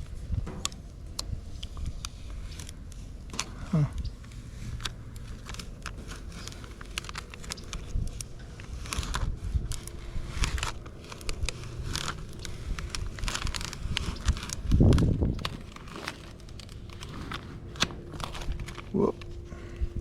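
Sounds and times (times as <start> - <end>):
decal crackling and crinkling: 0.0 - 20.0
loud rustles: 0.2 - 20.0.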